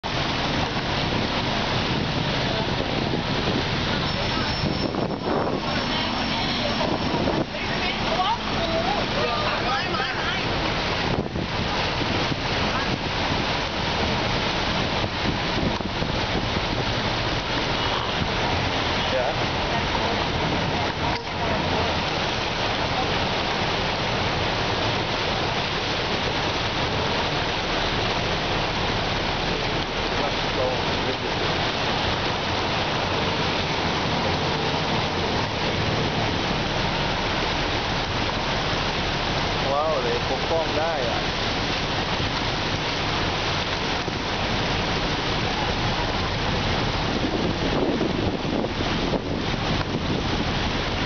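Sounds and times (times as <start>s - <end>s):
floodwater splashing: 0.0s - 51.0s.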